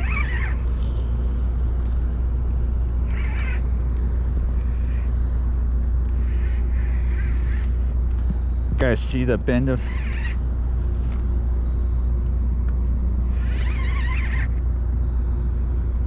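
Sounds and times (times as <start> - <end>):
large engine droning: 0.0 - 16.0.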